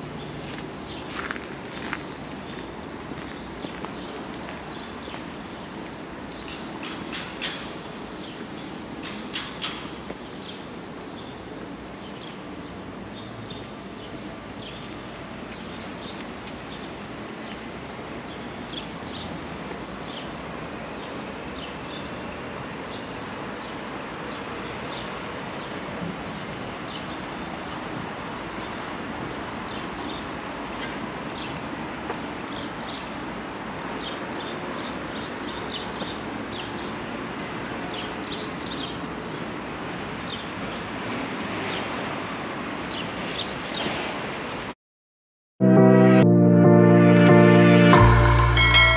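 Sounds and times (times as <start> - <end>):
distant traffic hum: 0.0 - 44.7.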